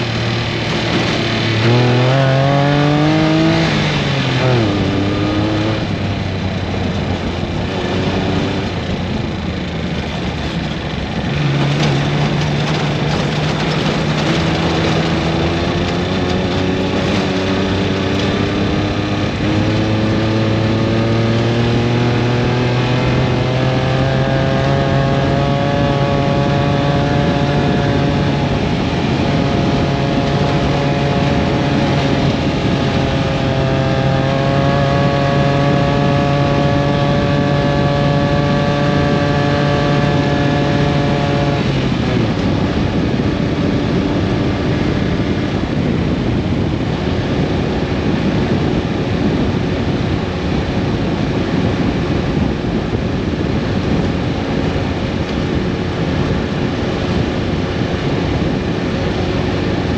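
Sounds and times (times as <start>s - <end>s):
vehicle engine running: 0.0s - 59.9s
vehicle moving noise: 0.0s - 59.9s.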